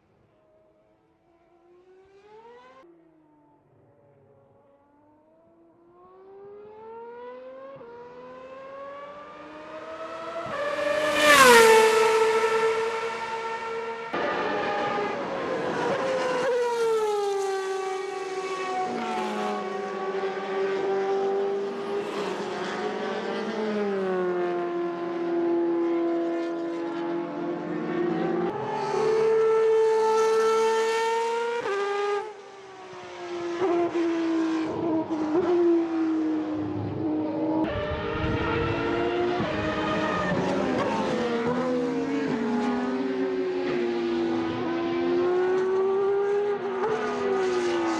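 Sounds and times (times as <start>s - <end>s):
race car engines at speed: 0.3s - 3.6s, 4.4s - 47.9s.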